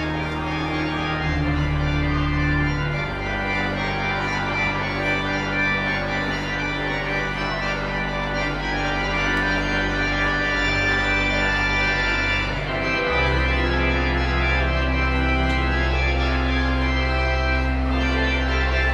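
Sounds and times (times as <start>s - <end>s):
organ bass notes: 0.0s - 18.9s
organ chords: 0.0s - 18.9s.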